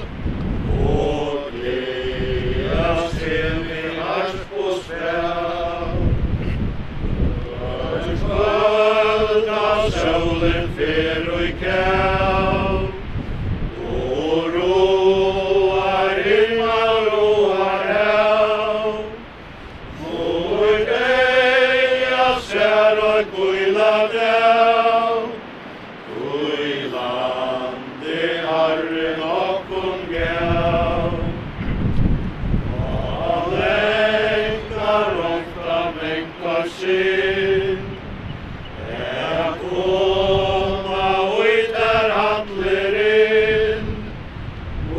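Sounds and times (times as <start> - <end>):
group singing a hymn: 0.0 - 44.9
wind rumbling on microphone: 0.0 - 44.9.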